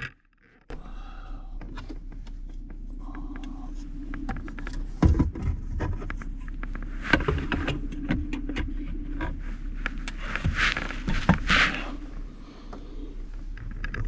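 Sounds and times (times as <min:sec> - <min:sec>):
steady low hum: 0:00.7 - 0:14.0.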